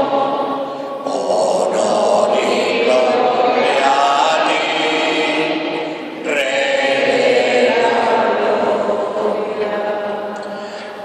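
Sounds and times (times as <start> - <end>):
congregation singing a hymn: 0.0 - 11.0.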